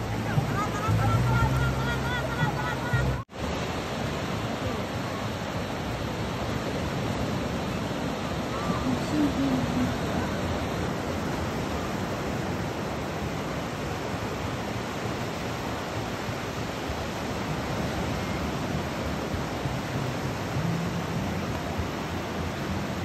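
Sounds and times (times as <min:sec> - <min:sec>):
surf breaking on sandy beach: 0:00.0 - 0:23.0.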